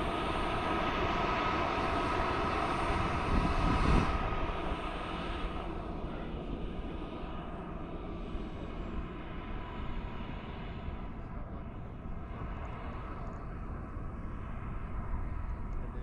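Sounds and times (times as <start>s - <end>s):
model jet turbine whine: 0.0s - 16.0s.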